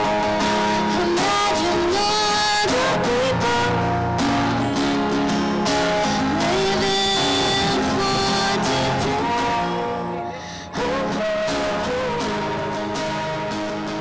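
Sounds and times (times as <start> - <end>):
acoustic guitar strumming: 0.0 - 14.0
woman singing into microphone: 0.0 - 14.0.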